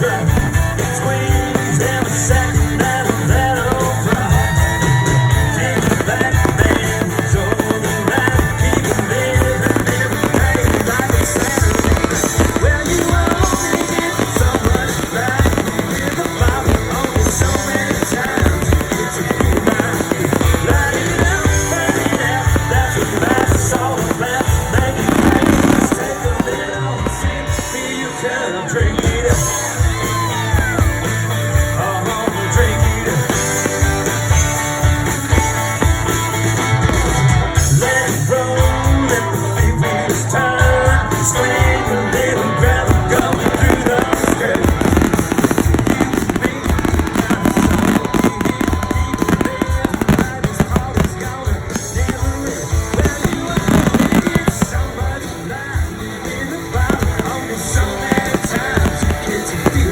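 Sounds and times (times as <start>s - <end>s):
live band playing rock song: 0.0s - 59.9s
loud drum beat: 0.0s - 59.9s.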